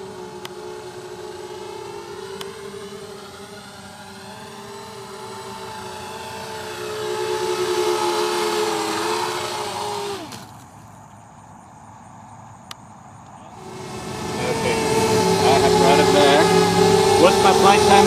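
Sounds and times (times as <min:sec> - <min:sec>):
quadcopter motors whining: 0:00.0 - 0:11.9, 0:12.6 - 0:18.0.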